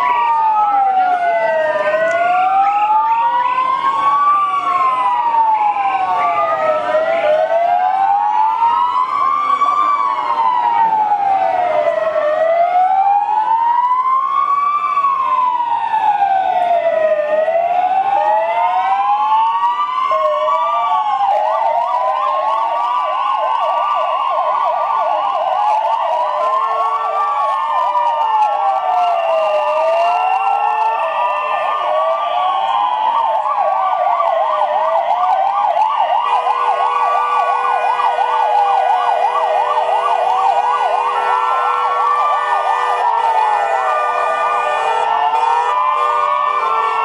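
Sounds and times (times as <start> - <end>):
police sirens wailing: 0.0 - 47.0
siren fast yelp: 0.0 - 47.0.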